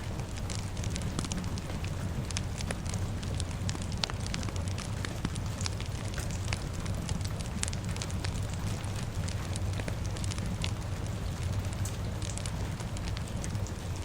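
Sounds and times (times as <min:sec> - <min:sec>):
fire crackling and popping: 0:00.0 - 0:14.0
rain hissing: 0:00.0 - 0:14.0.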